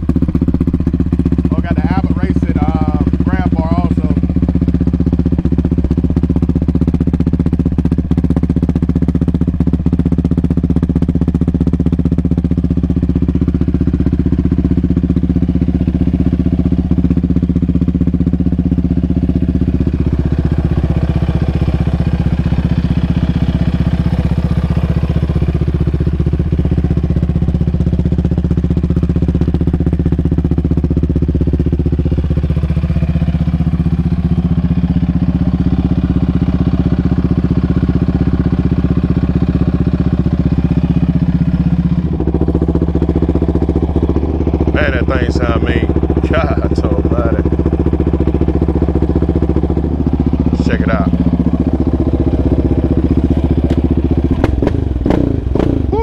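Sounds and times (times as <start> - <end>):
quad bike engine idling: 0.0 - 56.0.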